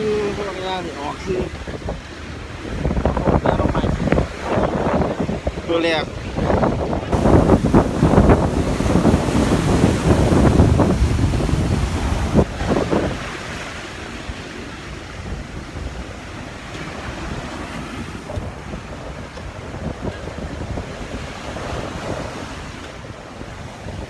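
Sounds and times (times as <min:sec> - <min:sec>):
sea waves washing on shore: 0:00.0 - 0:24.0
wind buffeting microphone: 0:00.0 - 0:24.0.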